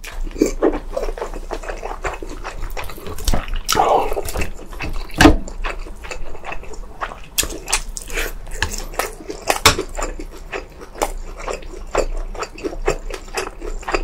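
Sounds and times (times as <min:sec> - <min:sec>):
wet chewing mouth sounds: 0:00.0 - 0:14.0.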